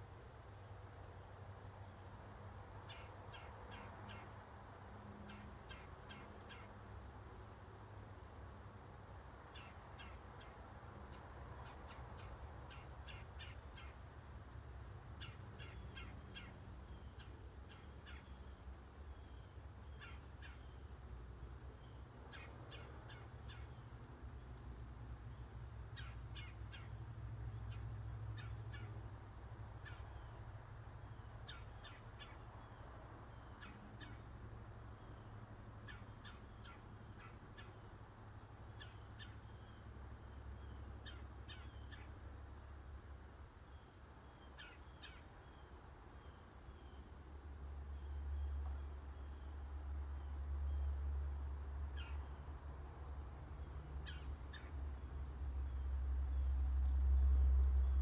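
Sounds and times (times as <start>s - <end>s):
faint bird calls: 2.8s - 4.4s, 5.0s - 6.8s, 9.5s - 21.0s, 21.6s - 29.0s, 29.8s - 42.6s, 43.6s - 51.2s, 51.8s - 52.5s, 53.6s - 58.0s.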